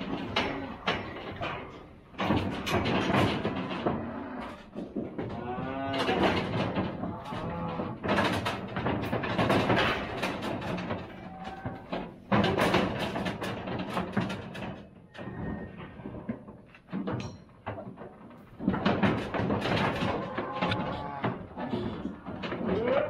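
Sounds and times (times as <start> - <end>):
cattle bumping steel gates: 0.0 - 23.0
hooves banging on trailer floor: 0.0 - 23.0.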